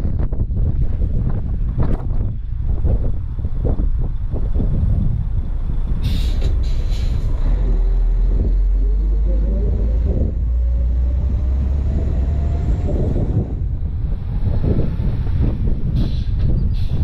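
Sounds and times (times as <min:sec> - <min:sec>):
truck engine rumbling: 0:00.0 - 0:17.0
wind noise on microphone: 0:00.0 - 0:17.0.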